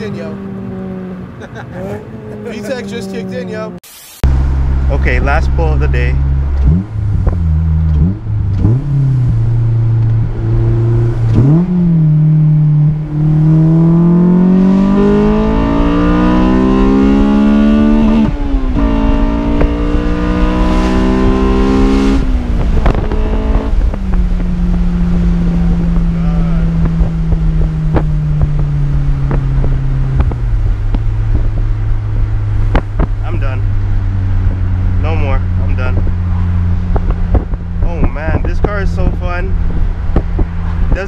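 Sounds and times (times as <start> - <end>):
high-revving car engine: 0.0 - 41.0
exhaust cracks: 2.5 - 14.0, 14.6 - 41.0.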